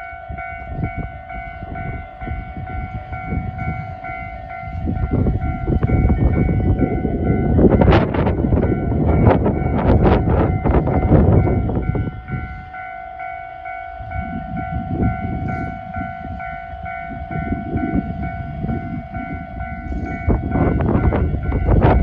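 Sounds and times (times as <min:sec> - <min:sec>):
level crossing warning bells: 0:00.0 - 0:22.0.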